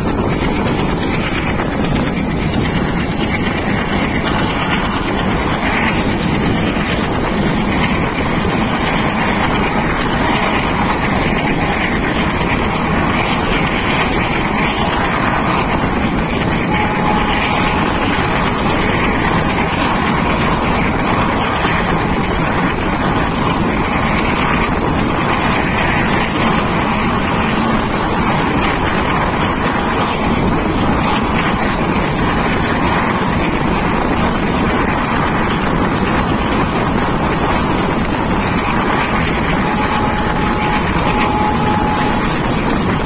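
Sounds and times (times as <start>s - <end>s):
moving train wind and running noise: 0.0s - 43.0s.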